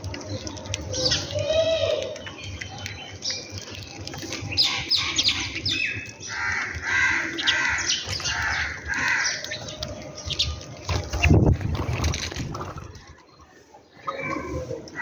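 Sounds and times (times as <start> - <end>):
sparrows chirping: 0.0 - 11.6, 12.6 - 15.0.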